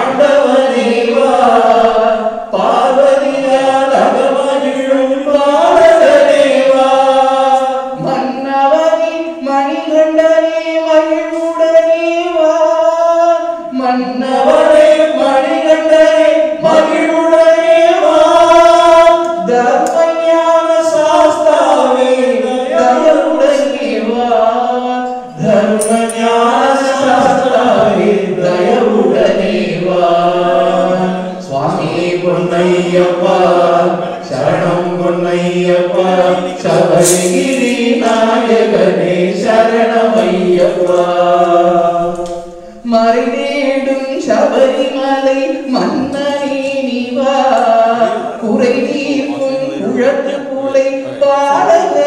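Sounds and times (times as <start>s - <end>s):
group singing devotional chant: 0.0s - 52.0s.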